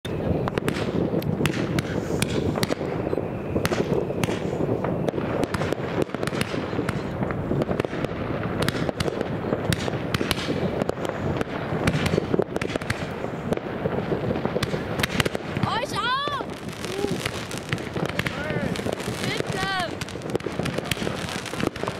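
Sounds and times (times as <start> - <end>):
fireworks bangs and pops: 0.0 - 21.9.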